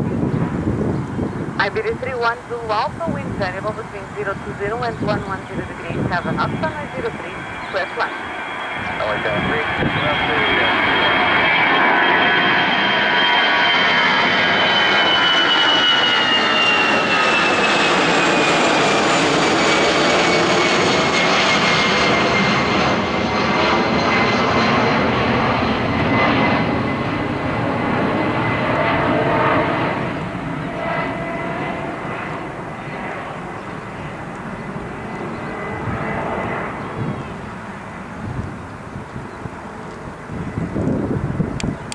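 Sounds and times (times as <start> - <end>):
jet engine roar: 0.0 - 41.9.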